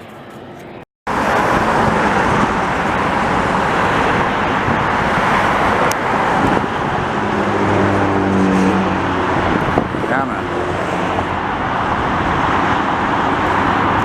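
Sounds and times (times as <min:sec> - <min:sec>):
rushing vehicle noise: 0:00.0 - 0:14.0.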